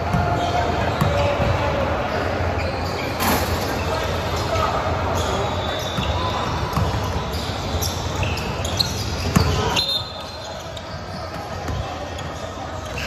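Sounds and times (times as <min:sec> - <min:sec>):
shoe squeaks: 0:00.3 - 0:13.0.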